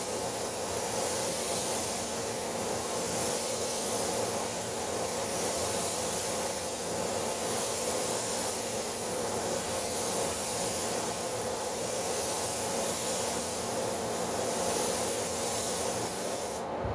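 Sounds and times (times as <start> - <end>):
paint spray gun hissing: 0.1 - 16.9.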